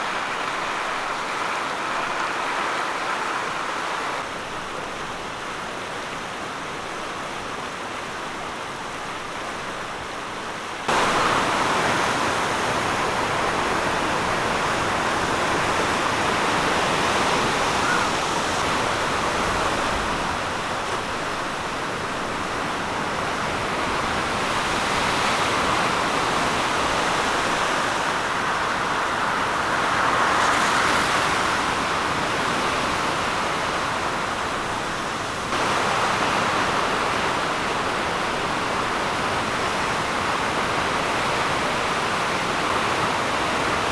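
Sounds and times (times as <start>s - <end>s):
fast-flowing water rushing: 0.0s - 43.9s.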